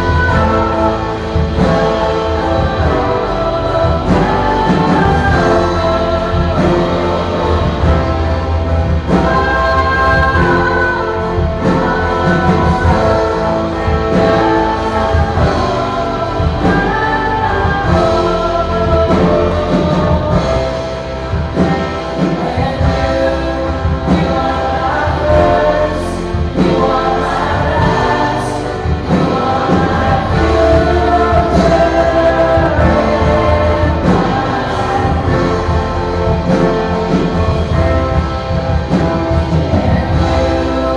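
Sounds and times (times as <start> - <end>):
worship band playing and singing: 0.0 - 40.9.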